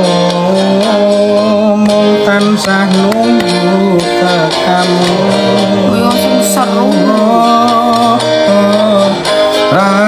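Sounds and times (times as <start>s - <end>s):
person singing slow love song: 0.0s - 10.0s
plucked strings: 0.0s - 10.0s.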